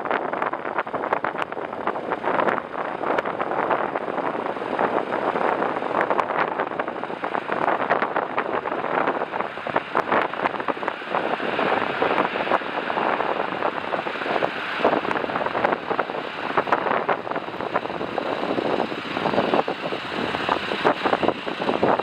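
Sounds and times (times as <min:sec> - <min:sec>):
jet engines roaring: 0:00.0 - 0:22.0
wind buffeting microphone: 0:00.0 - 0:22.0.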